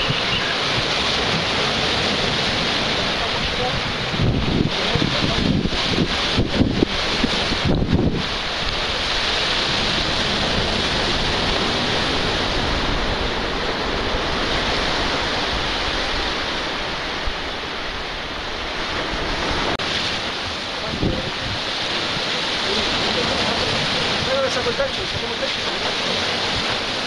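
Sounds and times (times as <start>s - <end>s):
surf breaking against rocks: 0.0s - 27.0s
wind noise on microphone: 0.0s - 27.0s.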